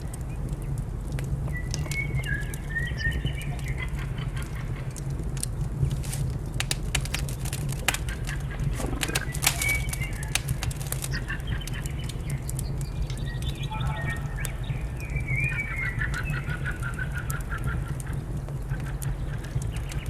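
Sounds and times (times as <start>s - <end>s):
fire crackling and popping: 0.0s - 20.0s
songbirds calling: 1.4s - 20.0s.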